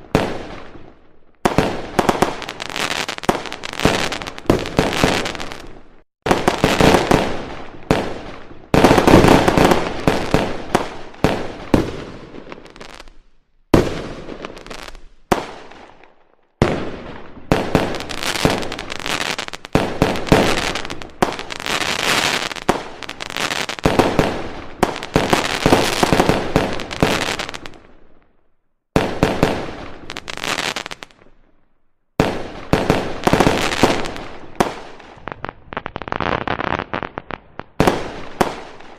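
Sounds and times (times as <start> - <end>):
fireworks bangs and crackling: 0.0 - 28.3, 28.9 - 31.6, 32.2 - 38.9.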